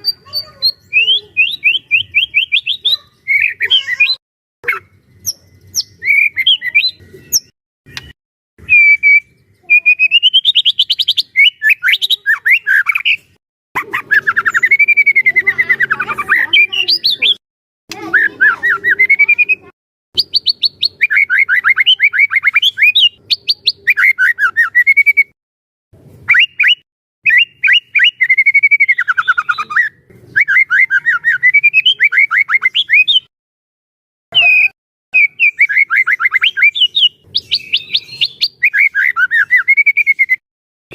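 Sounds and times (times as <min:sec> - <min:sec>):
bird singing trills and whistles: 0:00.0 - 0:17.4, 0:18.0 - 0:25.4, 0:26.2 - 0:33.3, 0:34.3 - 0:40.4.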